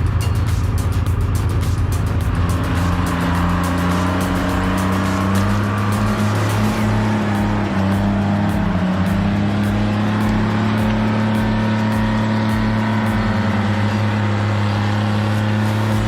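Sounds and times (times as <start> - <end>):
vehicle engine running under load: 0.0 - 16.0.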